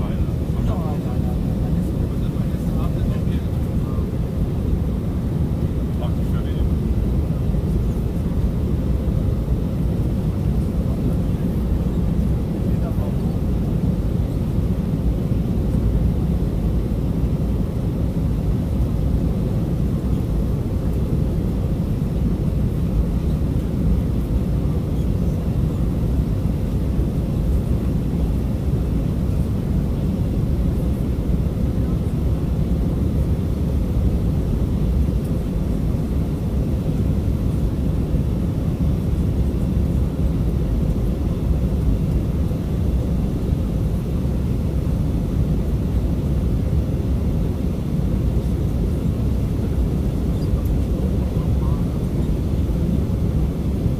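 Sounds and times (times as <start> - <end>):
jet engine rumble in cabin: 0.0 - 53.9.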